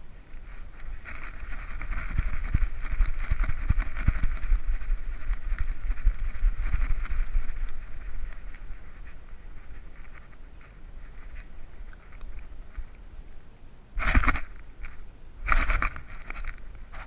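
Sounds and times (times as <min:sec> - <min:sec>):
wind rumble: 0:00.0 - 0:17.0.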